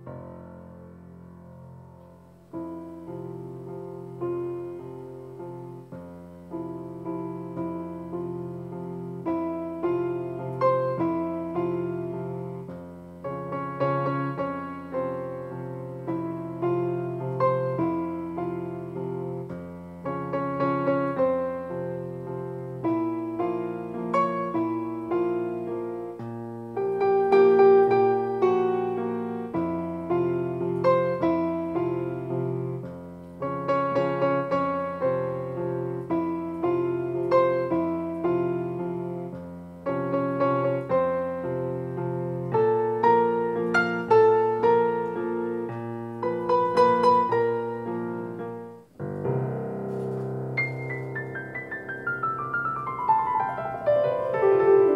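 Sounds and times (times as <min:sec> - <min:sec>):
held piano bass notes: 0:00.0 - 0:54.9
piano broken chords: 0:00.0 - 0:54.9.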